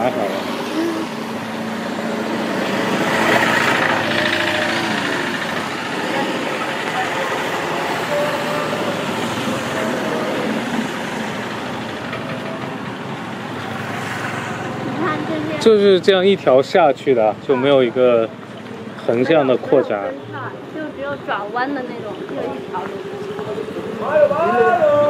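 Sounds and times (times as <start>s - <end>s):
street traffic: 0.0s - 25.0s.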